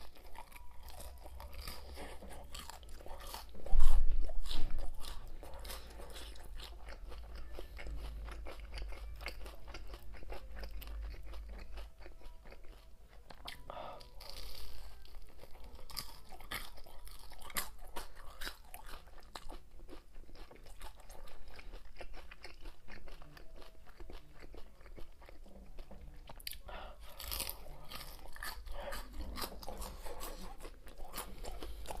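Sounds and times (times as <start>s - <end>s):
crunching and chewing fried food: 0.0s - 32.0s.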